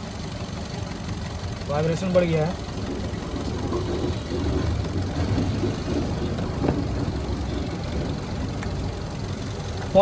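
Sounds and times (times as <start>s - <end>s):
car engine idling roughly: 0.0s - 10.0s.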